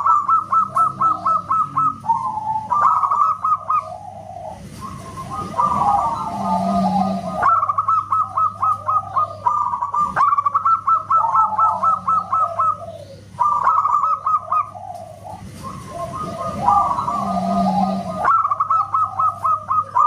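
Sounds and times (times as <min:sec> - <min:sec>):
dove cooing: 0:00.0 - 0:20.0
steady low hum: 0:00.0 - 0:20.0.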